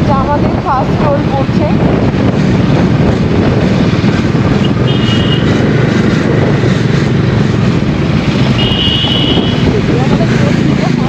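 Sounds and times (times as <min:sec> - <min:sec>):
motorcycle engine rumble: 0:00.0 - 0:11.0
rushing wind noise: 0:00.0 - 0:11.0.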